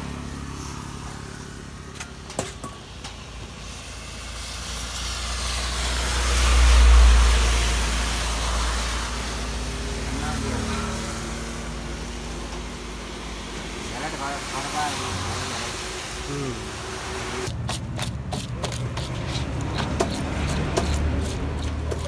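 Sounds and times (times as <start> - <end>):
vehicle engine rumble passing: 0.0 - 22.0.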